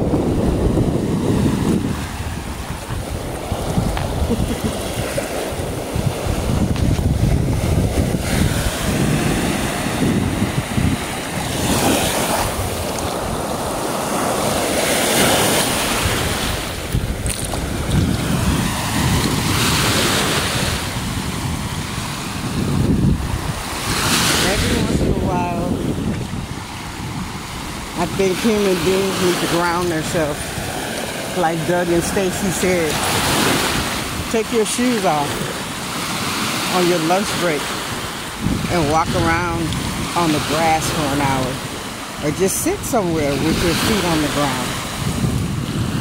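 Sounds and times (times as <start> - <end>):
lake waves washing on shore: 0.0 - 46.0
wind rumbling on microphone: 0.0 - 46.0.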